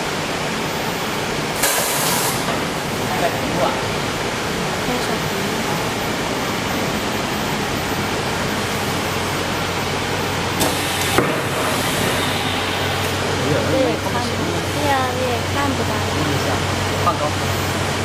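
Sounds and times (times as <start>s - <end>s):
welding machine hum and hiss: 0.0s - 18.0s.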